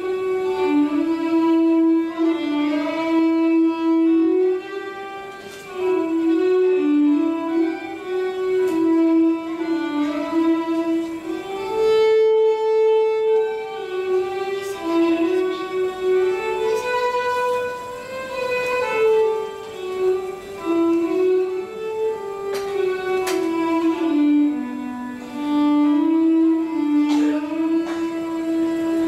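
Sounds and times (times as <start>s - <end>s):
solo violin slow melody: 0.0s - 29.0s.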